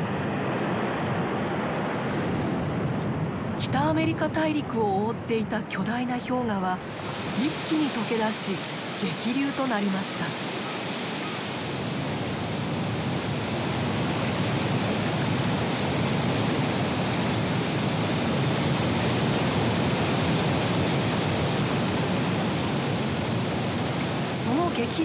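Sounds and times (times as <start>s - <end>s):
waterfall and river rapids rushing: 0.0s - 25.0s.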